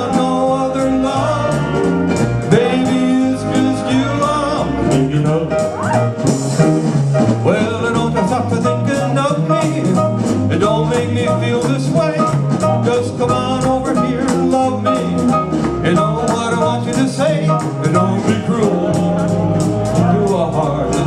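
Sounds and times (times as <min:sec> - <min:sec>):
instrumental rock and roll music: 0:00.0 - 0:21.0
steady drum beat: 0:00.0 - 0:21.0
walking bass line: 0:00.0 - 0:21.0.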